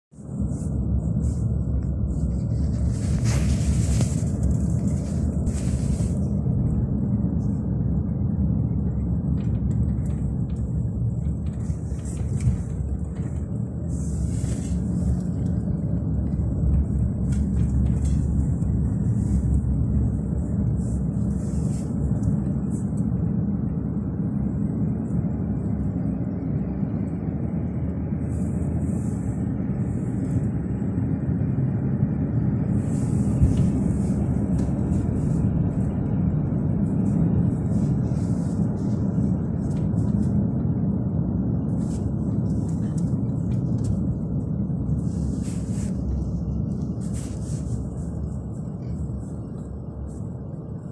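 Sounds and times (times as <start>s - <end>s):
car tyres and engine rumble: 0.0s - 50.9s.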